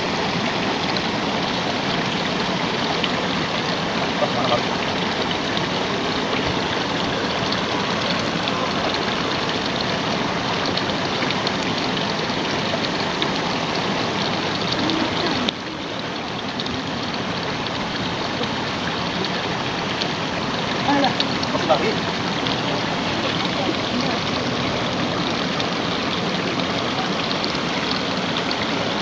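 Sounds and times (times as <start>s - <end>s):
water gushing from a pipe: 0.0s - 29.0s.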